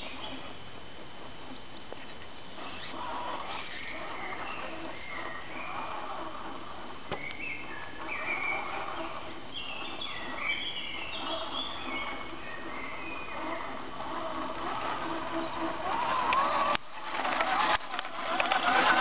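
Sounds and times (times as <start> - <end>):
birds chirping: 0.0 - 0.6, 1.5 - 19.0
rc truck motor whine: 0.0 - 0.6, 1.5 - 19.0.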